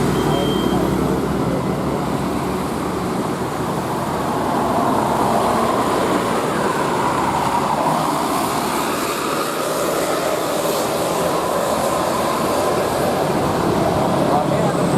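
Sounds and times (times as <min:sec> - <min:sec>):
bus engine driving past: 0:00.0 - 0:14.9.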